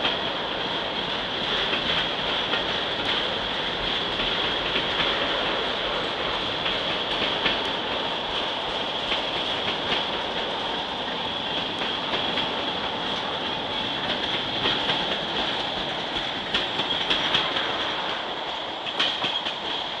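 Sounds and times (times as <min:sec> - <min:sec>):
train wheels rumbling on rail: 0:00.0 - 0:20.0
wheels clicking over rail joints: 0:00.0 - 0:20.0.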